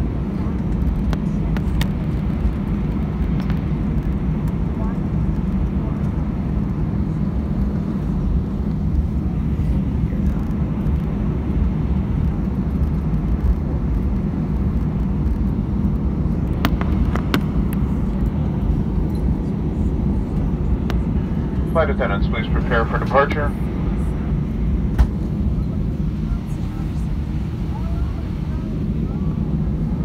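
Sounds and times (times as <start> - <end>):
jet engine low rumble: 0.0 - 30.0.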